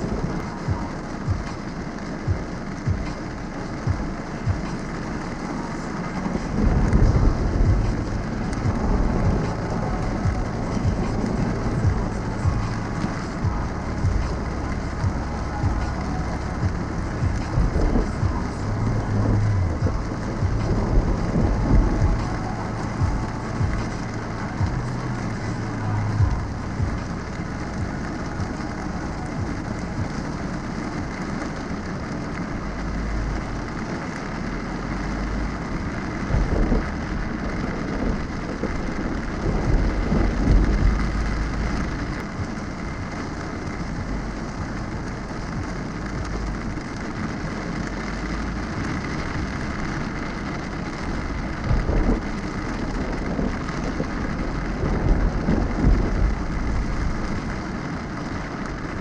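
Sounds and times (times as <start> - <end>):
deep low rumbles: 0.0 - 59.0
heavy rain on car windshield: 0.0 - 59.0.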